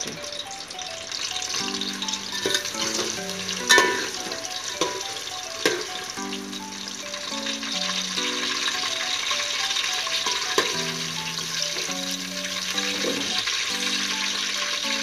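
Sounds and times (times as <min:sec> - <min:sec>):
soft background music: 0:00.0 - 0:15.0
potatoes sizzling in hot oil: 0:00.7 - 0:15.0.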